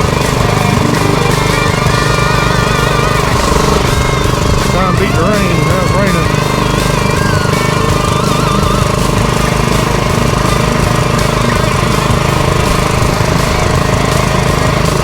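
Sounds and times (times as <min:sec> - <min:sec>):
small gasoline engine running: 0:00.0 - 0:15.0.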